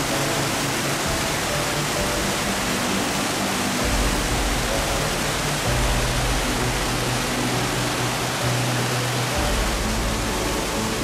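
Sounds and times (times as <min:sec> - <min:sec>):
soft background music: 0:00.0 - 0:11.0
waterfall pouring over rocks: 0:00.0 - 0:11.0.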